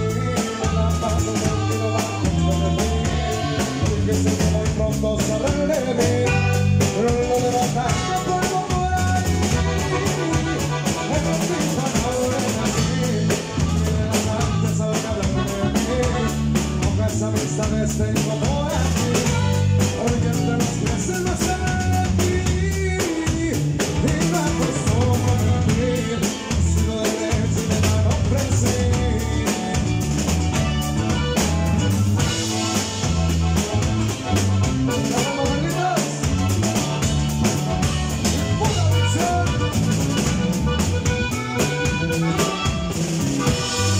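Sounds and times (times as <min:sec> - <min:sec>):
man singing: 0:00.0 - 0:31.3, 0:34.1 - 0:43.9
live band music: 0:00.0 - 0:43.9.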